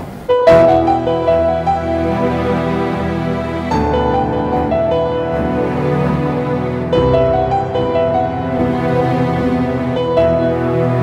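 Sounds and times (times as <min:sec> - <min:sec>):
instrumental music with held notes: 0:00.1 - 0:11.0.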